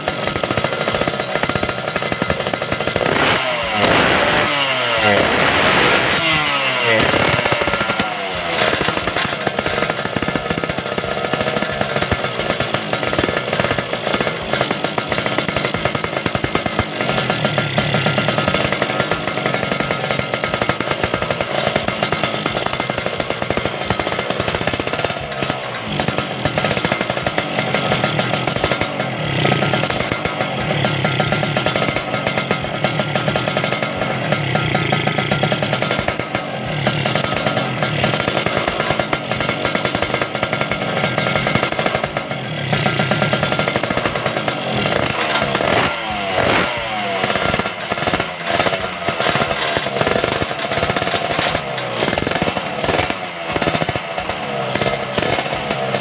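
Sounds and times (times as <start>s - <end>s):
two-stroke motorcycle engine buzzing: 0.0s - 56.0s.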